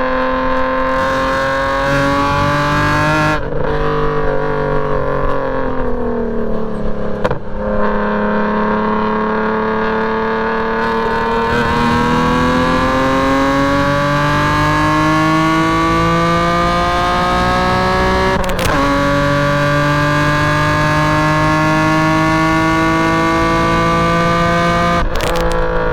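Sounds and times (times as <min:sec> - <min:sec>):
car engine revving under full throttle: 0:00.0 - 0:25.9.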